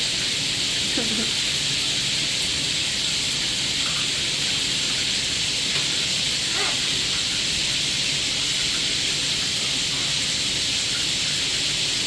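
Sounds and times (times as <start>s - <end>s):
water running into bathtub: 0.0s - 12.0s.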